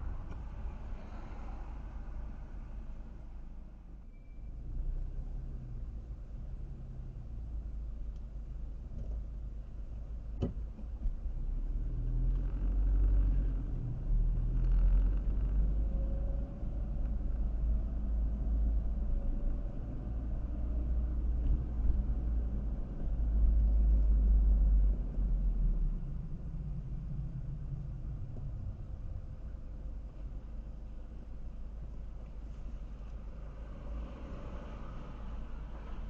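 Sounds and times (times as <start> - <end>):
car tyre and engine rumble: 0.0 - 36.0.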